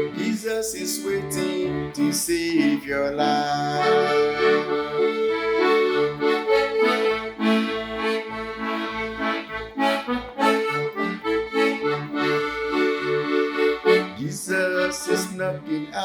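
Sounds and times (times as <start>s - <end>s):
sustained melody: 0.0s - 16.0s.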